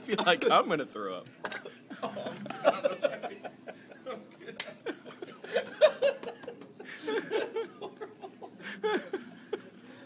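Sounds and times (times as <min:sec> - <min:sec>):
men laughing: 0:01.6 - 0:10.0.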